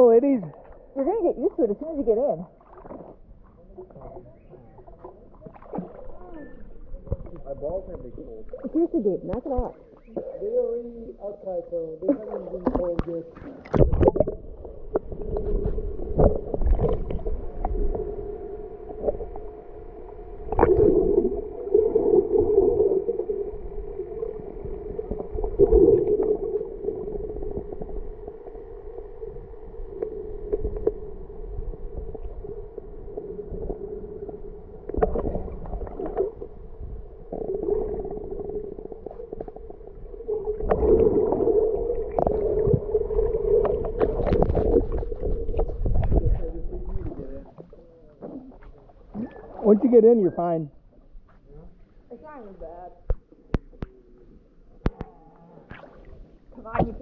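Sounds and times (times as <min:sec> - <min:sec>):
muffled underwater hum: 0:00.0 - 0:49.6
water rushing and gurgling: 0:00.0 - 0:50.6.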